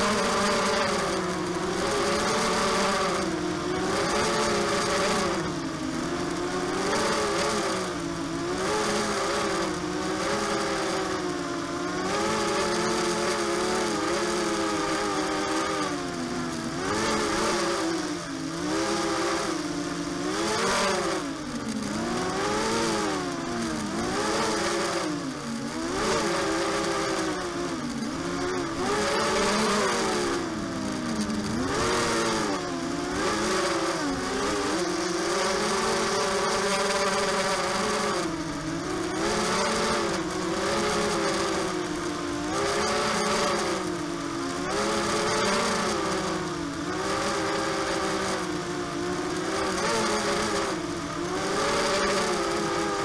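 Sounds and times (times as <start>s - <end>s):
quadcopter motors whining: 0.0s - 53.0s.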